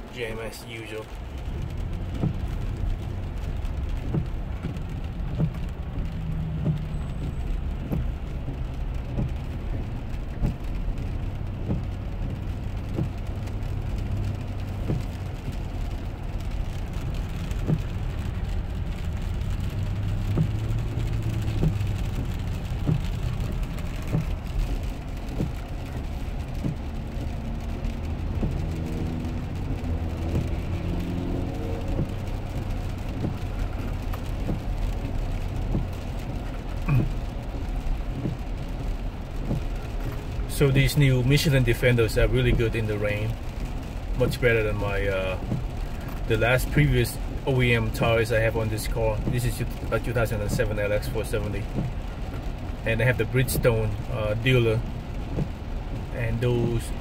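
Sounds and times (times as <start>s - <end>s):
car cabin road and engine rumble: 0.0s - 57.0s
rain on windshield: 0.0s - 57.0s
windshield wiper knocks: 1.4s - 47.4s, 49.2s - 51.0s, 51.6s - 52.7s, 54.8s - 56.1s.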